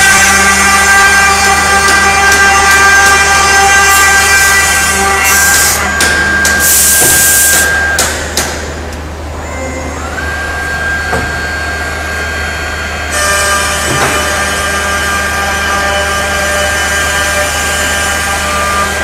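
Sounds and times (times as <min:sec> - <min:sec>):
high spindle whine: 0:00.0 - 0:19.0.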